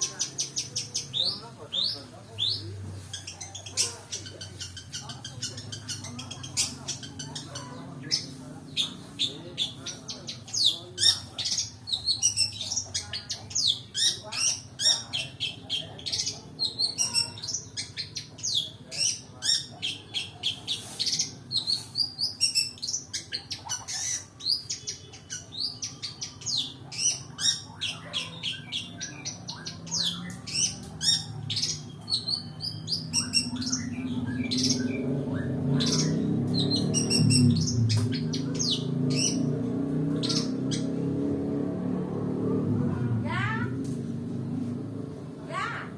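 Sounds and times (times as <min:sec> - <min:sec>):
bird singing varied chirps: 0:00.0 - 0:42.0.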